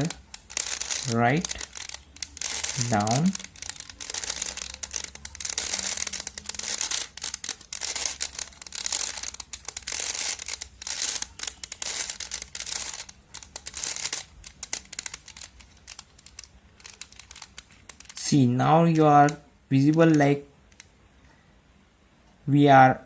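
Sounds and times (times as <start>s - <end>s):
puzzle cube layers clicking: 0.0s - 21.0s.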